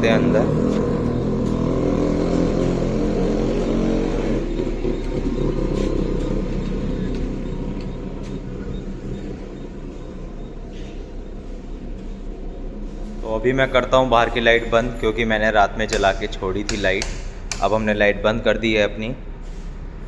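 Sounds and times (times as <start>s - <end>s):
street noise: 0.0s - 20.0s
vehicle engine running: 0.0s - 20.0s.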